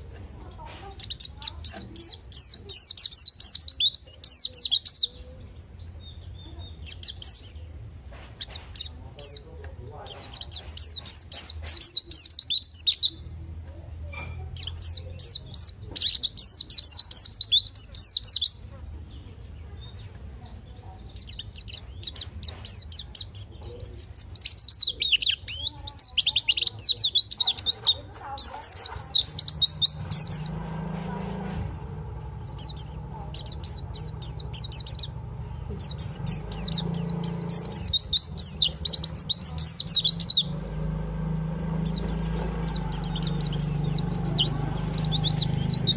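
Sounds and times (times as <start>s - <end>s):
bird high twittering chirps: 0.0s - 45.9s.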